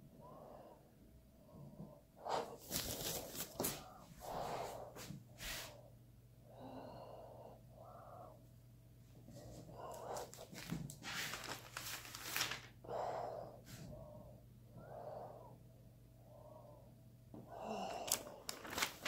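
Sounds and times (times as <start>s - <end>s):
person breathing: 0.0s - 8.6s, 9.2s - 19.0s.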